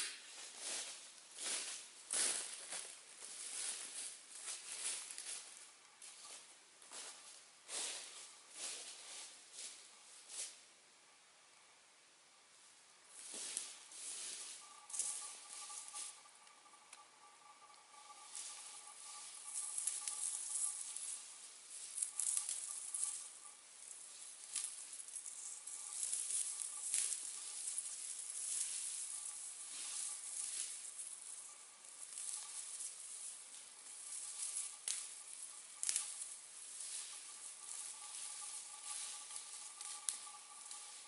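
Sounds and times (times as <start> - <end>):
wood fire crackling and hissing: 0.0 - 10.7, 13.1 - 41.0.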